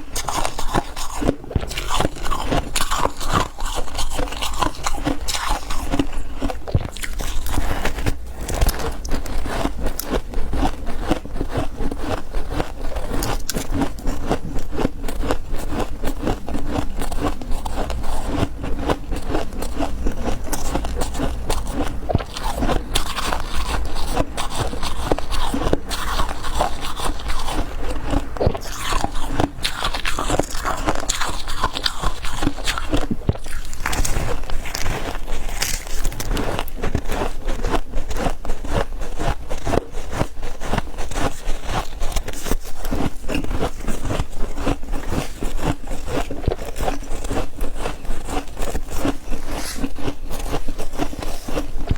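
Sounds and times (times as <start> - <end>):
crunchy chewing of frost: 0.0 - 51.9.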